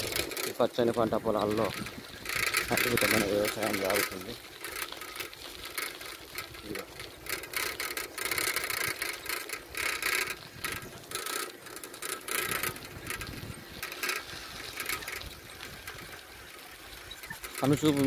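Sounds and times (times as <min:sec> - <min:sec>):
vehicle rattling and clattering: 0:00.0 - 0:18.0.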